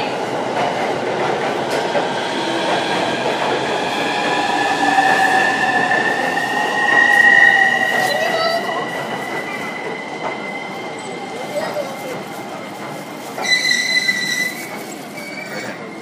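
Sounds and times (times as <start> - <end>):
train wheels rushing: 0.0 - 16.0.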